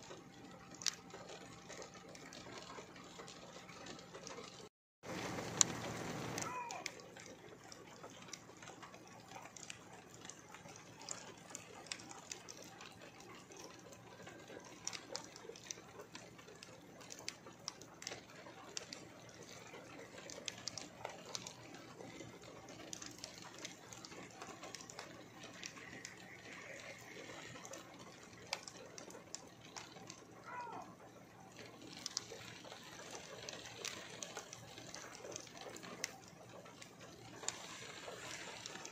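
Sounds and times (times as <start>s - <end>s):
ticks of raindrops: 0.0s - 38.9s
rain hiss: 5.1s - 38.9s.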